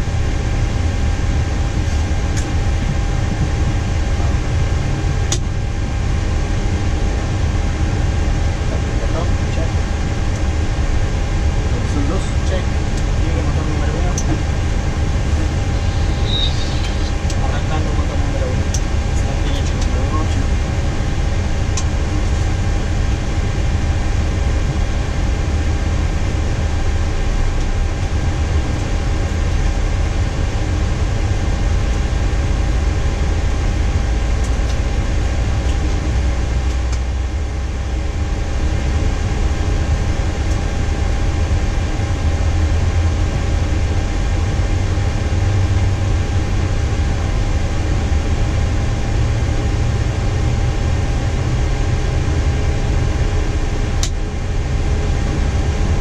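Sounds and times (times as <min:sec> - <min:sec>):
cockpit fans humming: 0:00.0 - 0:56.0
jet engine low rumble: 0:00.0 - 0:56.0.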